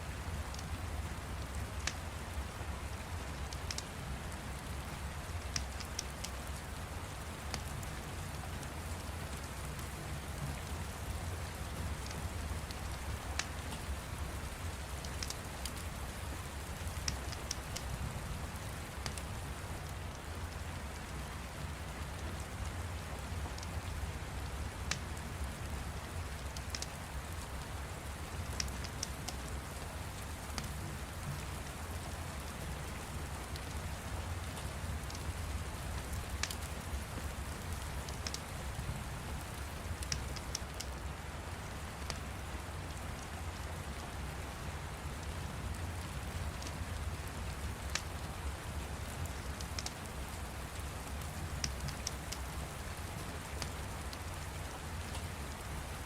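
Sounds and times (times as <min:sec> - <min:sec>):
steady rain: 0:00.0 - 0:56.0
fire crackling: 0:00.1 - 0:56.0.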